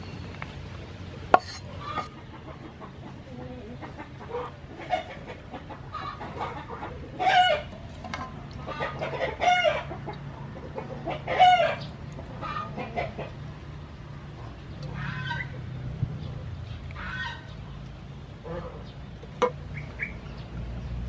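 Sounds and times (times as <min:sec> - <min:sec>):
farm birds calling: 0:00.0 - 0:21.0.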